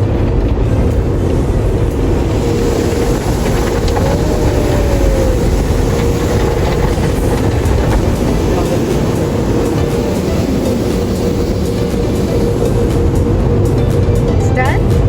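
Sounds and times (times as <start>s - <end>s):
constant hum: 0.0s - 15.0s
low mechanical rumble: 0.0s - 15.0s.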